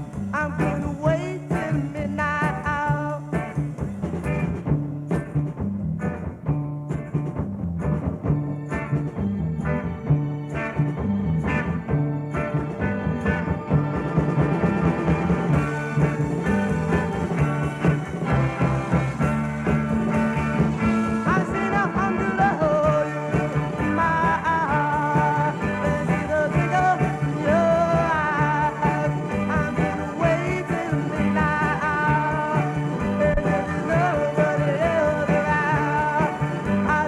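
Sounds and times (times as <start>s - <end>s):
rock band playing live: 0.0s - 37.0s.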